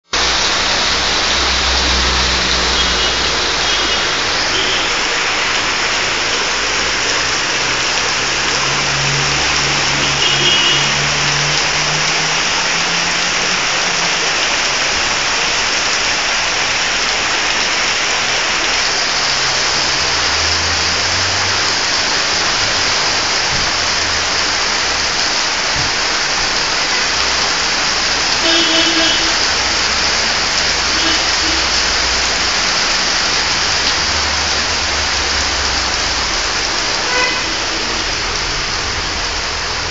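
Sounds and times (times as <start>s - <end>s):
heavy rain and running water: 0.0s - 39.9s
car driving through floodwater: 0.2s - 39.9s.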